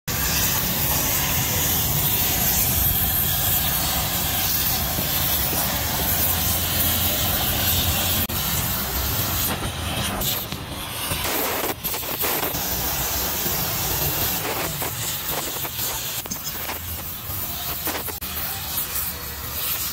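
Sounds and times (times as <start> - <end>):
gas torch flame hissing: 0.1 - 19.9.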